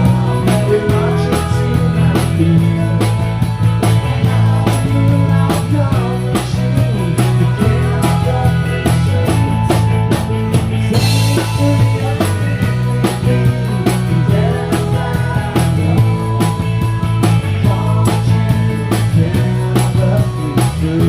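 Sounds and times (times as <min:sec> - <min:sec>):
drum beat: 0:00.0 - 0:21.0
electric bass line: 0:00.0 - 0:21.0
guitar: 0:00.0 - 0:21.0.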